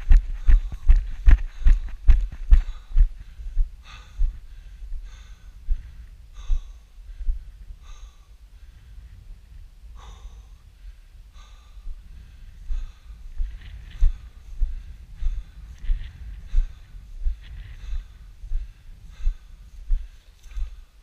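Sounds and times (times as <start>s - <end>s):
person breathing hard: 0.0s - 21.0s
wind rumble on microphone: 0.0s - 21.0s.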